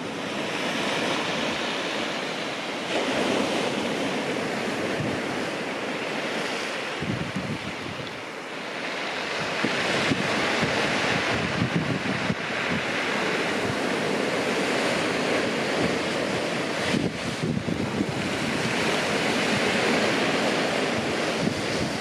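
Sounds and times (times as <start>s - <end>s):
wind buffeting microphone: 0.0s - 8.3s, 9.2s - 22.0s
surf washing up shingle beach: 0.0s - 22.0s.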